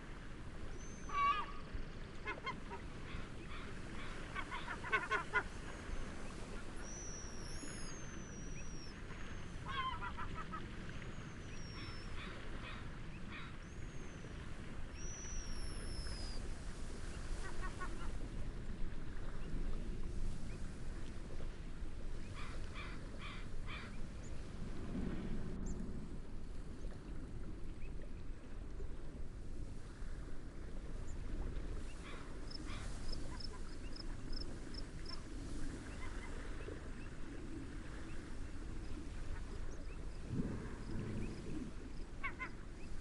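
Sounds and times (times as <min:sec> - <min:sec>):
wind and waves: 0:00.0 - 0:43.0.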